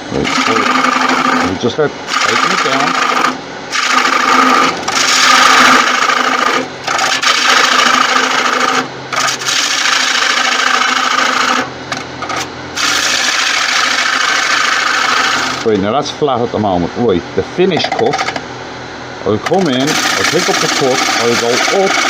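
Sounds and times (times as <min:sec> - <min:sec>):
lathe humming: 0:00.0 - 0:22.0.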